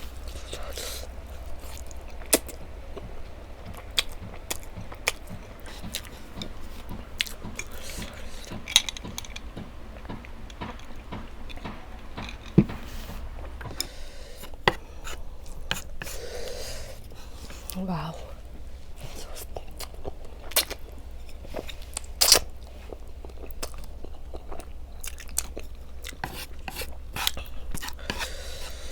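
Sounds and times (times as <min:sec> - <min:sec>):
chewing and biting food: 0:00.0 - 0:16.2, 0:18.4 - 0:28.3
steady low hum: 0:00.0 - 0:28.9.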